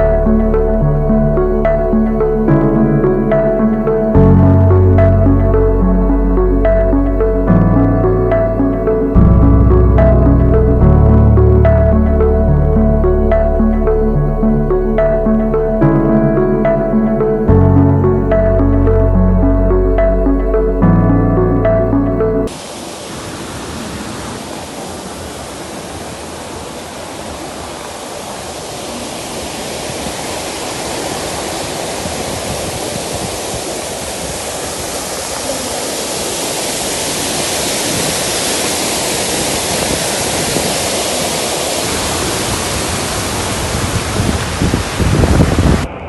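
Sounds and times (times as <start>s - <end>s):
steady rushing noise: 0.0s - 46.0s.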